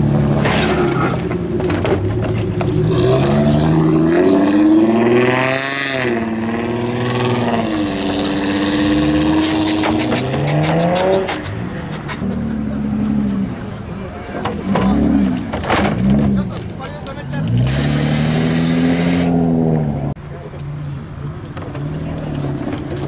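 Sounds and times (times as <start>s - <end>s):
car engine revving: 0.0s - 20.2s.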